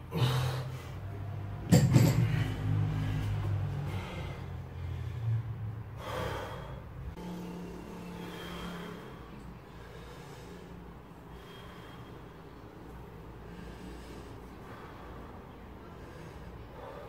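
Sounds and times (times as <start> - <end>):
person breathing heavily: 0.0 - 1.5, 2.3 - 17.0
low hum: 0.0 - 17.0.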